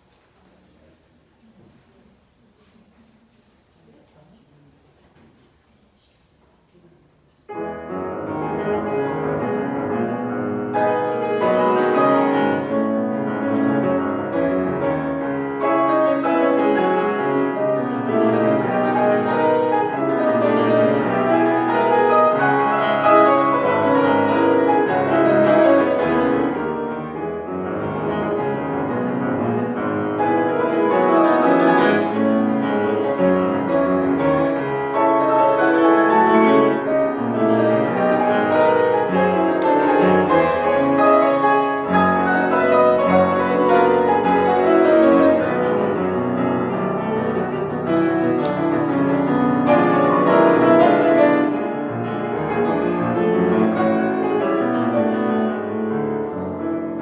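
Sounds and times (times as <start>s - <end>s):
grand piano playing: 7.5s - 57.0s.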